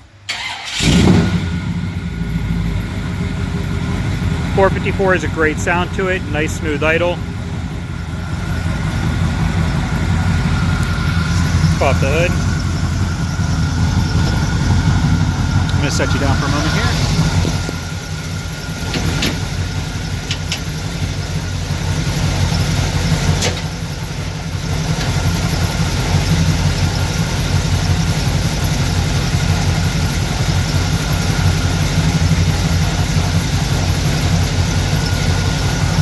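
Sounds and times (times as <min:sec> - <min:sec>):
pickup engine idling: 0:00.0 - 0:36.0.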